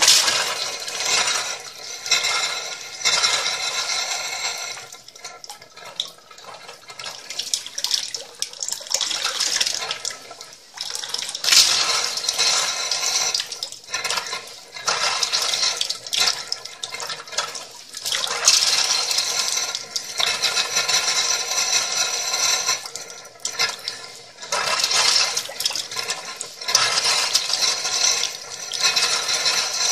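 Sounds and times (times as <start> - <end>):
water tap running: 0.0 - 29.9.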